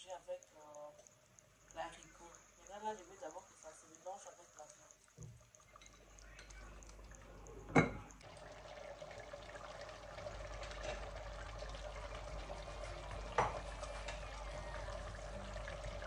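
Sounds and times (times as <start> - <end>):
sauce simmering and bubbling: 0.0 - 16.0.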